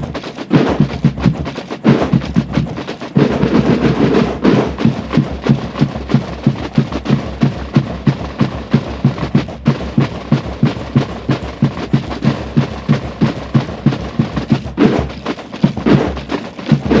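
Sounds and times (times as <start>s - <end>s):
marching drums beating: 0.0s - 17.0s.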